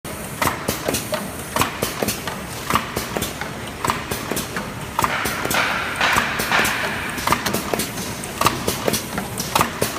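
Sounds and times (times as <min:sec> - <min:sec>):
packing machine clacking: 0:00.4 - 0:09.9.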